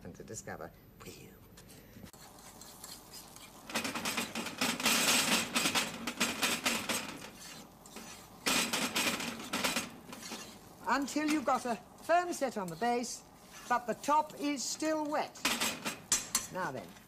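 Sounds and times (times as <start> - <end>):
fork scraping frying pan: 2.2 - 16.7.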